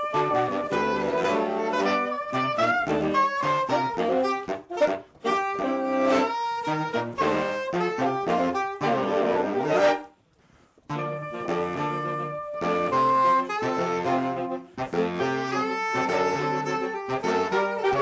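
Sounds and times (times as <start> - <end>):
saxophone quartet playing: 0.0 - 10.2, 10.9 - 18.0.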